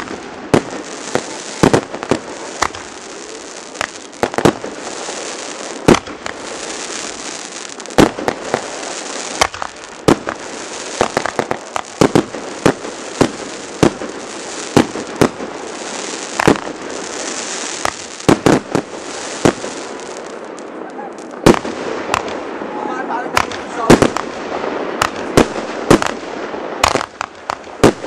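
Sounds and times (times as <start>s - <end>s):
continuous hiss: 0.0s - 28.0s
fireworks banging: 0.0s - 28.0s.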